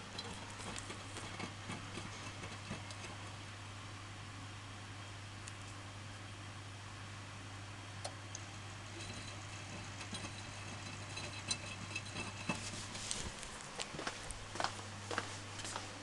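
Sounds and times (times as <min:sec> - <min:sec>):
washing machine hum: 0:00.0 - 0:16.0.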